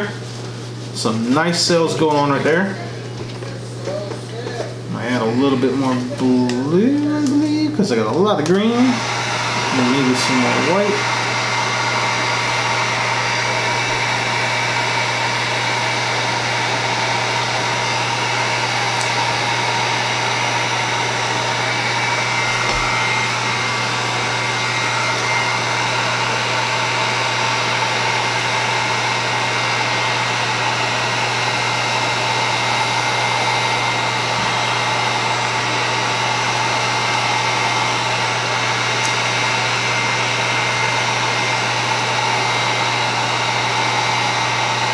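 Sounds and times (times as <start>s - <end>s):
heat gun blowing air: 8.5s - 44.9s.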